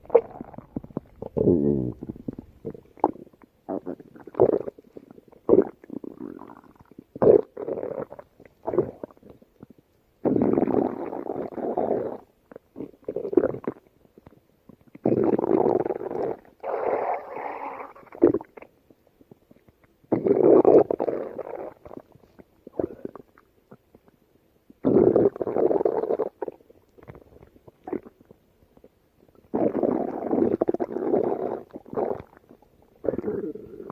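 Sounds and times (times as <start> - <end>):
stomach growling and gurgling: 0.0 - 33.9.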